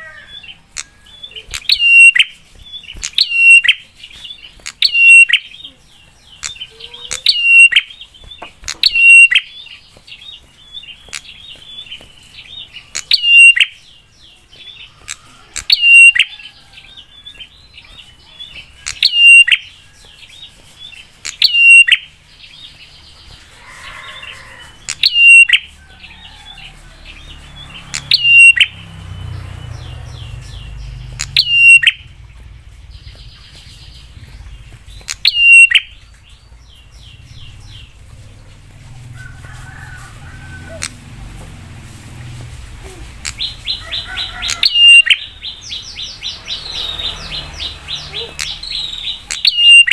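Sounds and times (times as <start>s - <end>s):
bird sharp piercing calls: 0.0s - 14.0s, 14.6s - 19.8s, 20.9s - 25.7s, 27.6s - 32.2s, 32.9s - 38.2s, 42.8s - 49.9s.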